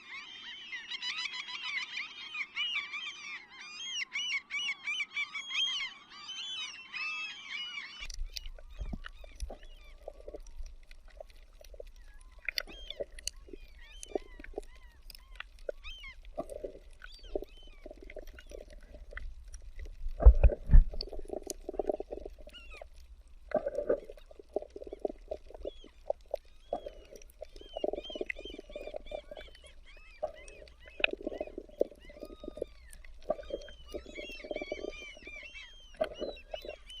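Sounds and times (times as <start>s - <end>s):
small birds chirping: 5.4s - 37.0s.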